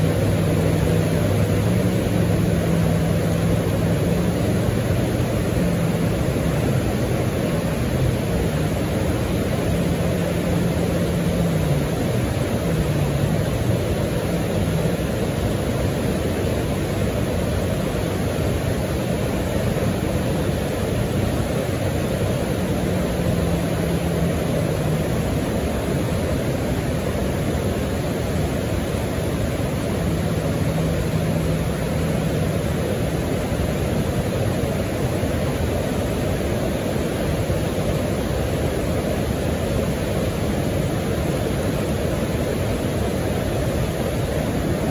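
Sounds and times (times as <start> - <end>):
whitewater river rapid roaring: 0.0 - 44.9.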